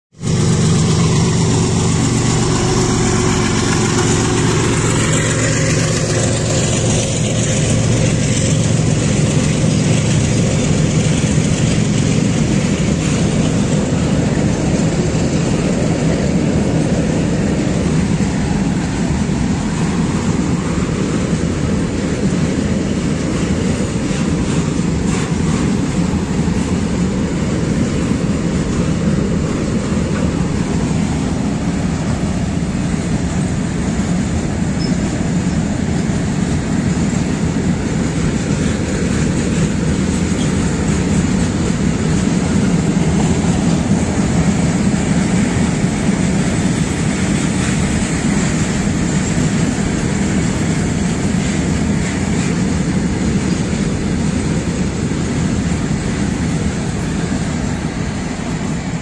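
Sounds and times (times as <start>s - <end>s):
locomotive engine drone: 0.1s - 59.0s
train wheels rumbling on rail: 0.1s - 59.0s.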